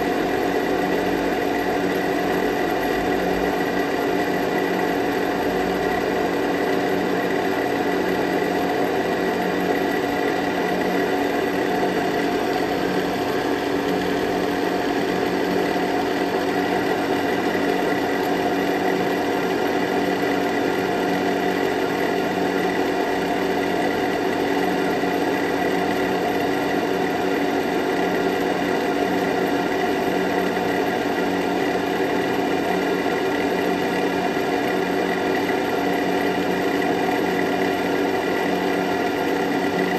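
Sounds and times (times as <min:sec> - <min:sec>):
lathe whirring: 0:00.0 - 0:39.9.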